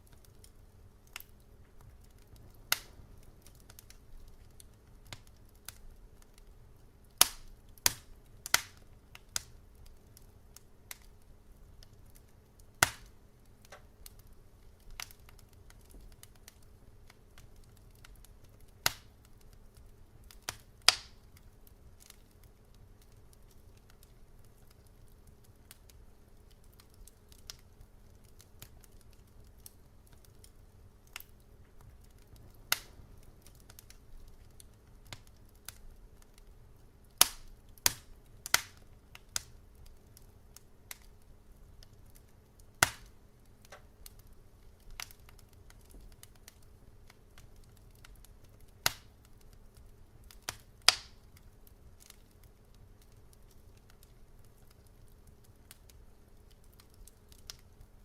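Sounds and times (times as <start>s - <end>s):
faint low hum: 0.0s - 58.0s
wood fire crackling: 0.0s - 58.0s.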